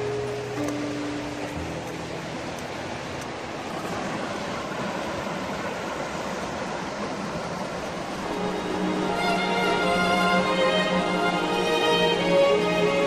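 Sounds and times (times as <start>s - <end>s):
creek rushing over stones: 0.0s - 13.0s.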